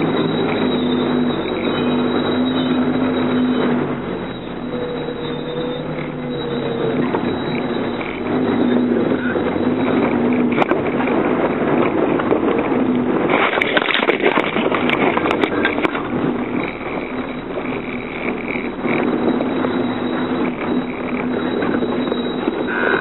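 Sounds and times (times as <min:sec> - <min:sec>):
vehicle knocks and rattles: 0:00.0 - 0:22.7
car engine running: 0:00.0 - 0:23.0.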